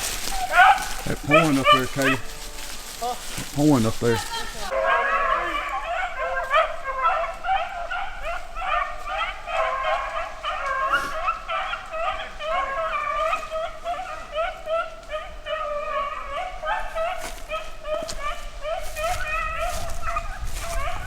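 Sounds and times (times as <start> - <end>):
hounds baying in chorus: 0.0 - 21.0.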